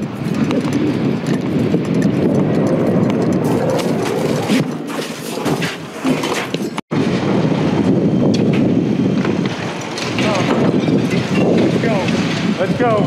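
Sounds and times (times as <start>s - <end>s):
dense rumbling noise: 0.0s - 6.3s, 6.9s - 13.0s.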